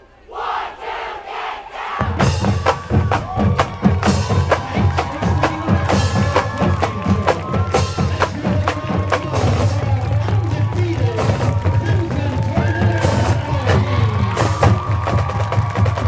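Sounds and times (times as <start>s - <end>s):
held brass notes: 0.0s - 16.0s
drumline beating: 1.8s - 16.0s
bass drums: 2.0s - 16.0s.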